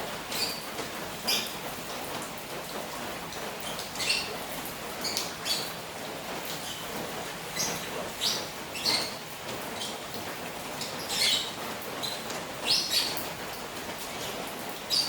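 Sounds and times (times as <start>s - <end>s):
rain pattering on pond: 0.0s - 15.0s.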